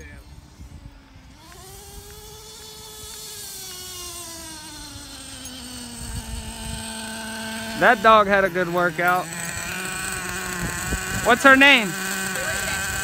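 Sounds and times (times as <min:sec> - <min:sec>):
toy truck drivetrain whine: 0:00.0 - 0:13.0.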